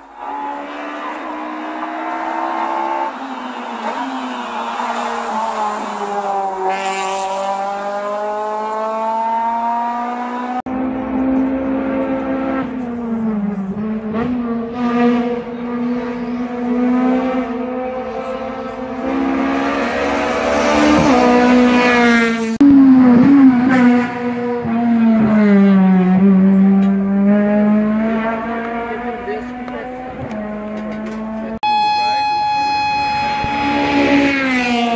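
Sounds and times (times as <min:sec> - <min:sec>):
race car engine revving: 0:00.0 - 0:34.9.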